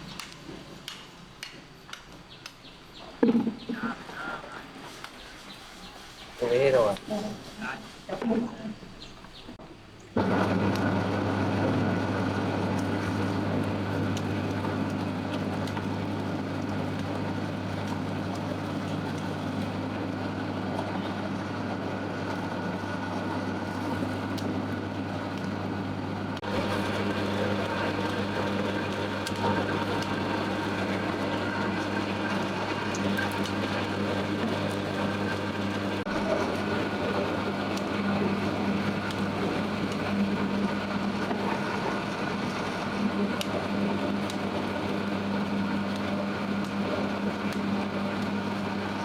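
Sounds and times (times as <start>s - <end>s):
motor humming: 2.1s - 49.0s.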